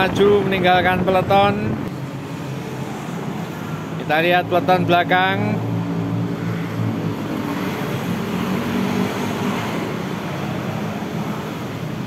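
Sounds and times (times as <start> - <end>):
road and wind noise: 0.0 - 12.0
vehicle engine hum: 0.0 - 12.0.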